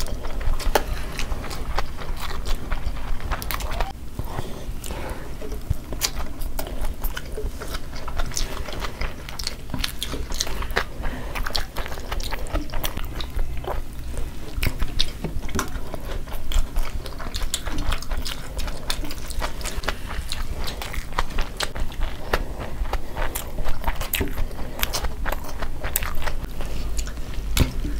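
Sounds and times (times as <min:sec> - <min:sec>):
people chewing: 0:00.0 - 0:27.9.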